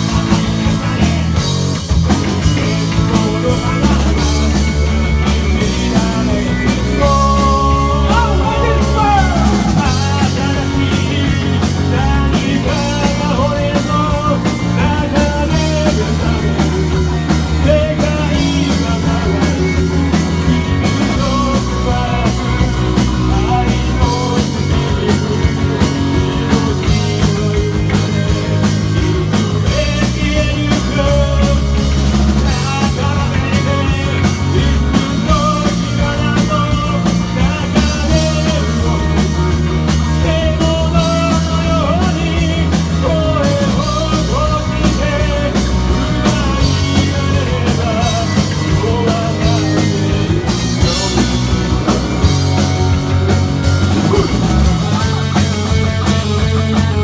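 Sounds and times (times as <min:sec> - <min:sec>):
lead vocal singing: 0:00.0 - 0:52.5, 0:53.6 - 0:55.6
rock band playing live: 0:00.0 - 0:57.0.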